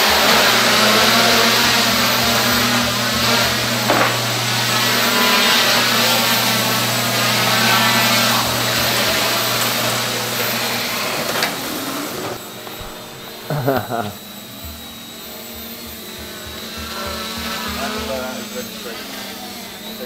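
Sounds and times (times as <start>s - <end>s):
quadcopter motors whirring: 0.0s - 20.0s.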